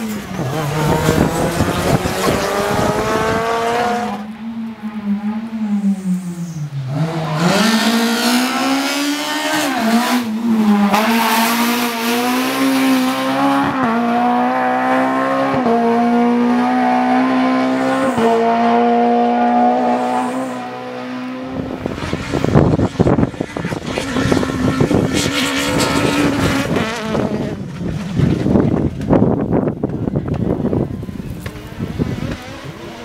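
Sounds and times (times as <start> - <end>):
race car engine at full throttle: 0.0 - 33.0.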